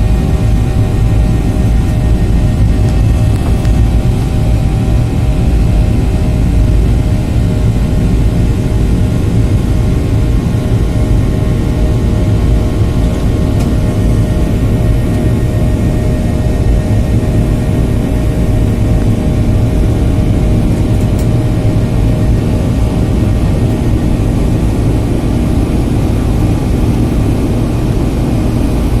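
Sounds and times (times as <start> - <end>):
airplane cabin rumble: 0.0 - 29.0
steady engine tones: 0.0 - 29.0.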